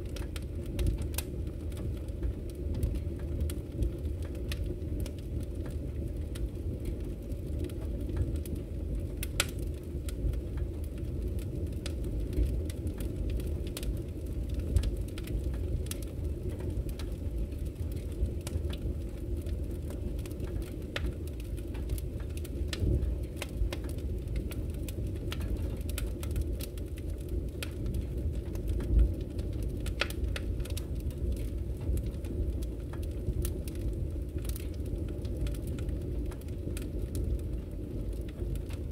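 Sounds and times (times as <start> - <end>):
fire crackling and popping: 0.0 - 38.9
fire flames rumbling: 0.0 - 38.9.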